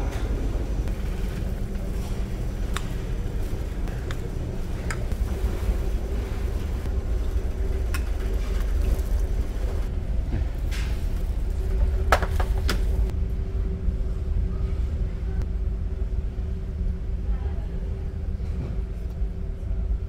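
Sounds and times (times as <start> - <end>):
ship engines droning: 0.0 - 20.0
steady hum: 0.0 - 20.0.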